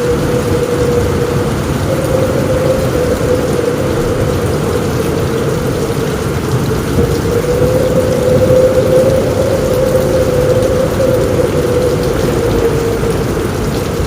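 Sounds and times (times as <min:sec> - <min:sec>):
low rumble: 0:00.0 - 0:14.0
rain on a roof: 0:00.0 - 0:14.0.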